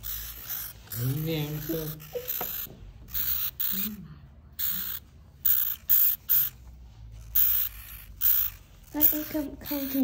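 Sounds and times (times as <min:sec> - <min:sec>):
hamster pups squeaking: 0:00.0 - 0:10.0.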